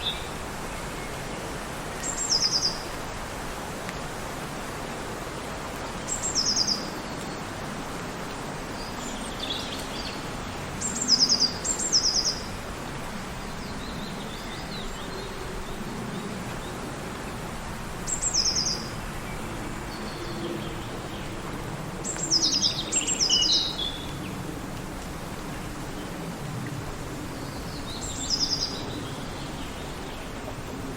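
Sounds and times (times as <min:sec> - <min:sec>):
wind through forest: 0:00.0 - 0:30.9.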